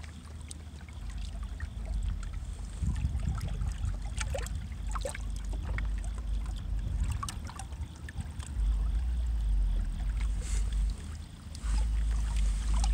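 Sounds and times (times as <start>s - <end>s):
water lapping against boulders: 0.0s - 12.9s
water trickling: 0.0s - 12.9s
low rumble: 1.2s - 12.9s.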